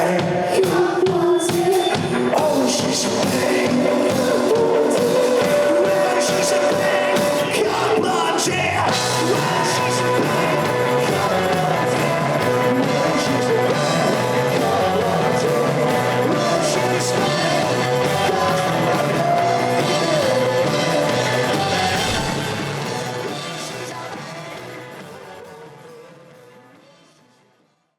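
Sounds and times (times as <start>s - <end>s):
rock music with singing: 0.0s - 27.6s.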